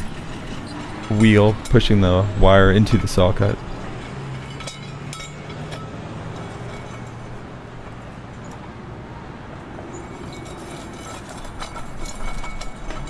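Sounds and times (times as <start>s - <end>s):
low engine hum: 0.0s - 13.0s
road noise from passing cars: 0.0s - 13.0s.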